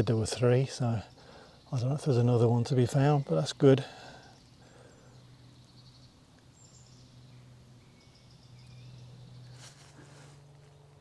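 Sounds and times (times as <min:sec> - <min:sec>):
birds chirping and trilling: 0:00.0 - 0:11.0.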